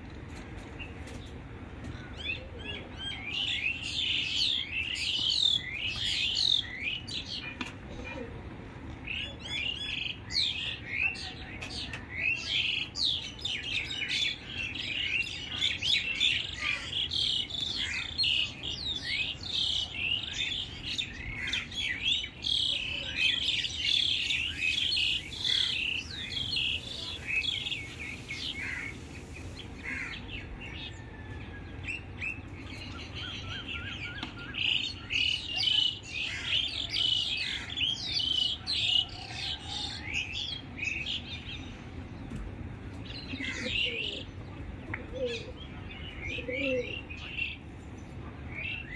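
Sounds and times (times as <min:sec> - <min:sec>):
birds chirping and tweeting: 0:00.0 - 0:48.9.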